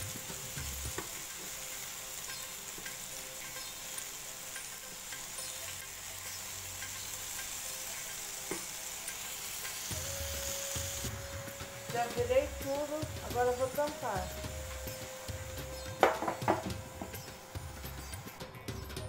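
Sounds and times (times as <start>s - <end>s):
kebabs sizzling on a grill plate: 0.0s - 19.0s.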